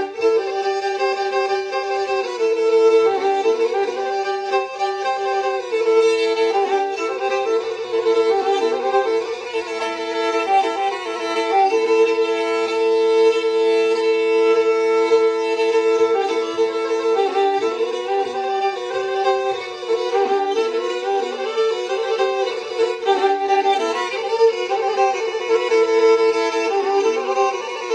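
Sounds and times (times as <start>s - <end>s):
bowed folk fiddle music: 0.0s - 27.9s.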